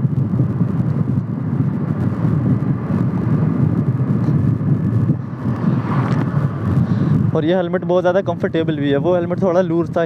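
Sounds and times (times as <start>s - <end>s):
road noise: 0.0s - 10.0s
wind buffeting microphone: 0.0s - 10.0s.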